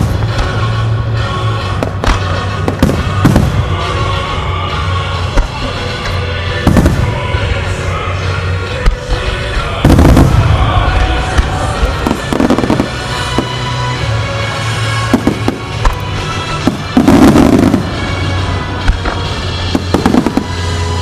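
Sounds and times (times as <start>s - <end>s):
fireworks bursting: 0.0s - 21.0s
fireworks popping: 0.0s - 21.0s
music from loudspeakers: 0.0s - 21.0s.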